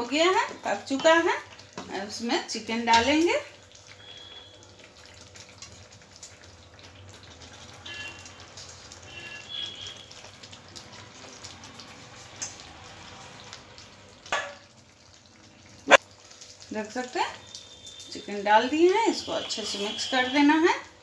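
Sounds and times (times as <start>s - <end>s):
food sizzling and bubbling in pan: 0.0s - 21.0s.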